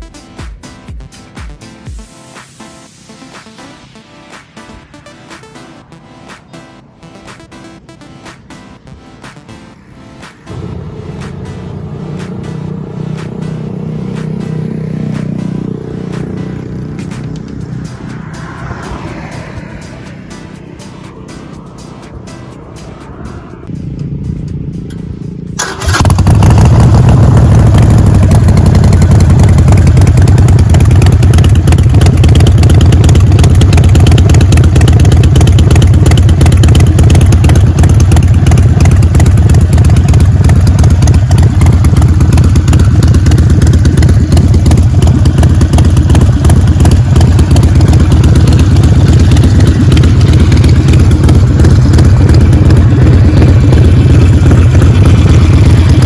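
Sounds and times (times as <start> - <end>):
motorcycle engine running: 9.2 - 56.0.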